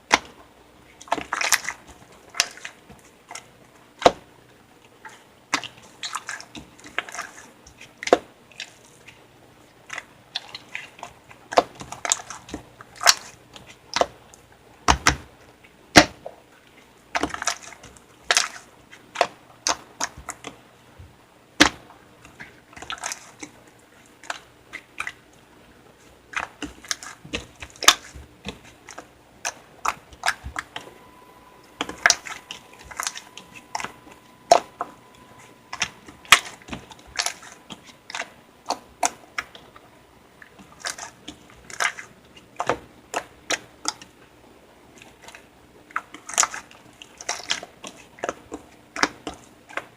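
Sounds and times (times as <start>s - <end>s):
slime squishing: 0.0s - 49.9s.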